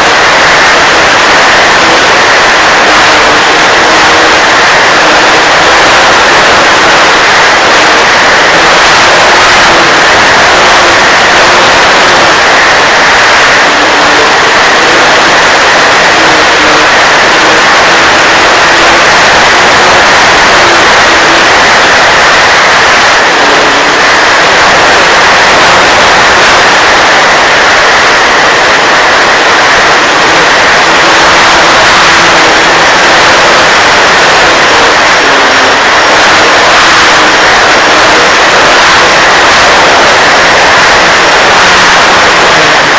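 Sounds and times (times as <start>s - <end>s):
model airplane motor whine: 0.0s - 42.9s.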